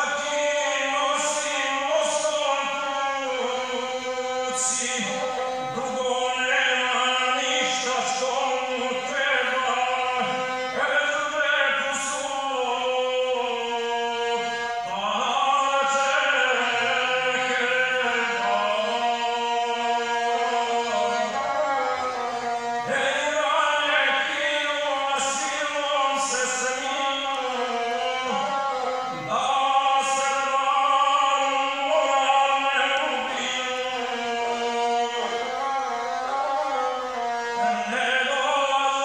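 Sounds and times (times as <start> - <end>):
bowed single-string instrument: 0.0 - 39.0.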